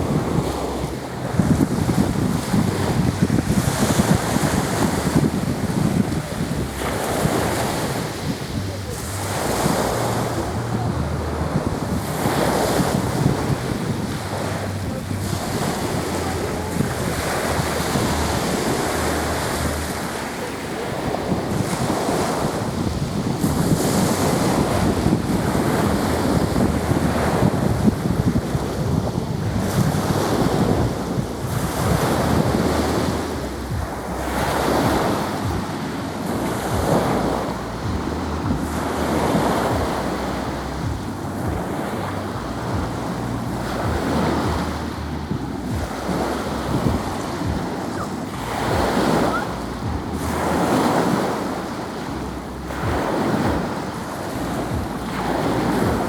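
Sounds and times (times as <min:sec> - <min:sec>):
sea waves washing onto shore: 0:00.0 - 0:56.0
wind buffeting microphone: 0:00.0 - 0:56.0.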